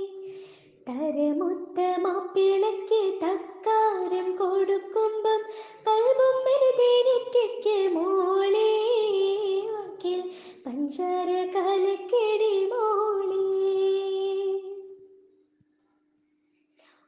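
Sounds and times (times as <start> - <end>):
woman singing slow melody: 0.0 - 15.1.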